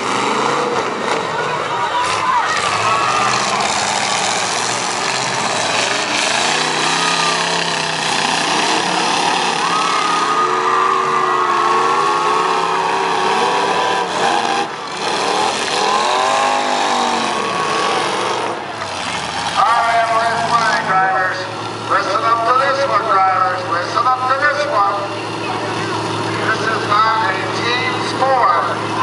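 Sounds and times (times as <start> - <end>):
car engines revving: 0.0 - 29.0
constant dense noise: 0.0 - 29.0.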